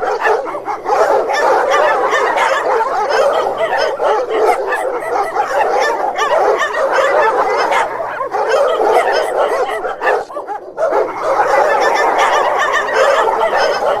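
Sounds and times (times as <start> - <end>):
dogs barking and yapping: 0.0 - 14.0.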